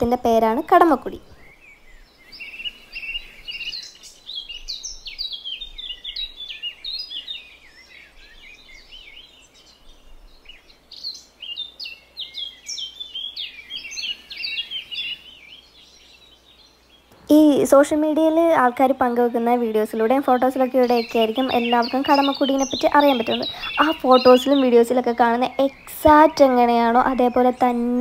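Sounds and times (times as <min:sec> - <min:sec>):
birds chirping: 0:00.0 - 0:28.0
faint steady hiss: 0:00.0 - 0:28.0.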